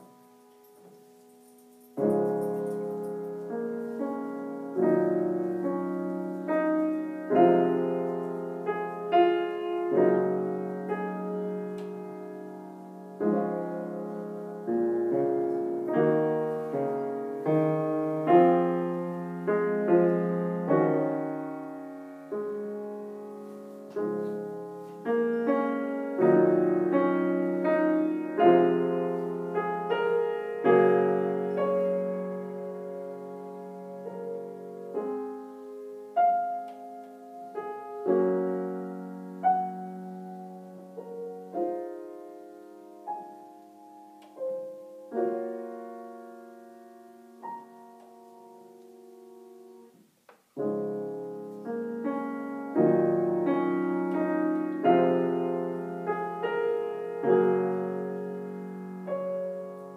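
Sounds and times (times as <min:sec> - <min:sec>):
grand piano chords: 0:00.0 - 0:59.9.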